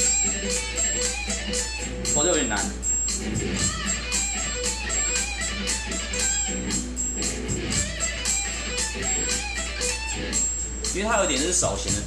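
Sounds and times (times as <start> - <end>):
electric guitar picking: 0.0 - 11.0
backing track with steady beat: 0.0 - 12.0.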